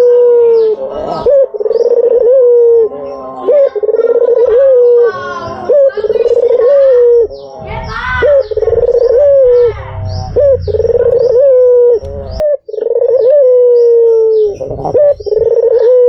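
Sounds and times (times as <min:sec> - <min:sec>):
dove cooing loudly: 0:00.0 - 0:07.5, 0:10.4 - 0:16.0.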